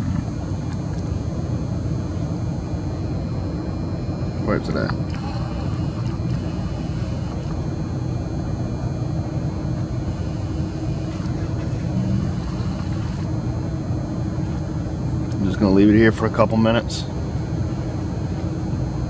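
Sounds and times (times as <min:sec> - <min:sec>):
faint constant hum: 0:00.0 - 0:19.0
steady low rumble: 0:00.0 - 0:19.0.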